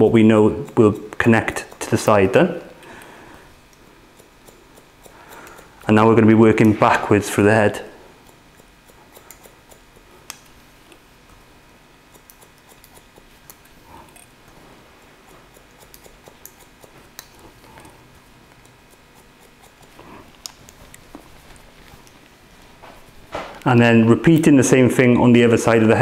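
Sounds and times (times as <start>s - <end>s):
scissors snipping hair: 0.3s - 7.1s, 8.1s - 11.4s, 12.0s - 23.6s.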